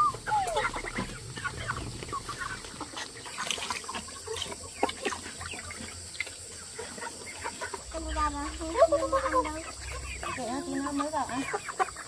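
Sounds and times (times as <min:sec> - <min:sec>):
chicken chirps: 0:00.0 - 0:12.0
chickens clucking: 0:00.0 - 0:12.0.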